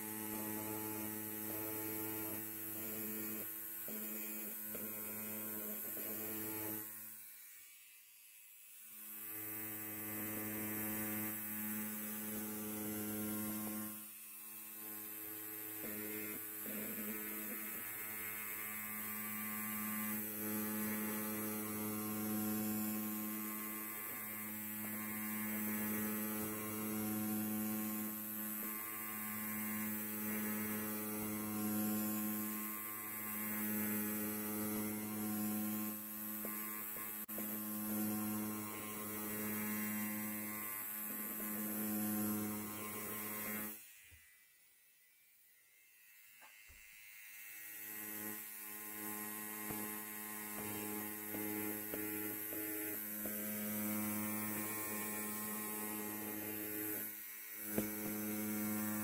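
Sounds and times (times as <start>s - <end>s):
electric hair clipper buzzing: 0.0s - 59.0s.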